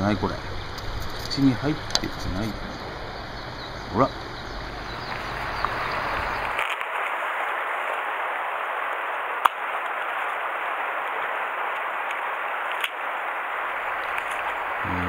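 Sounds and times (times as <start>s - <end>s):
river stream rushing: 0.0s - 15.0s.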